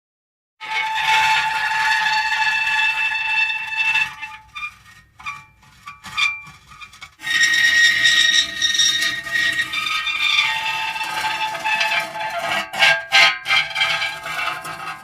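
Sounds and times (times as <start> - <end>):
metal creaking and squeaking: 0.6 - 15.0.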